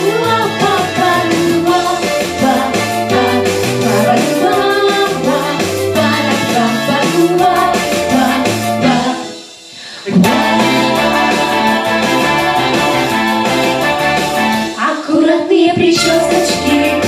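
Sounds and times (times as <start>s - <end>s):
instrumental music: 0.0s - 8.8s, 10.2s - 14.8s, 15.8s - 17.0s
person singing: 0.0s - 9.3s, 10.0s - 14.1s, 14.8s - 17.0s.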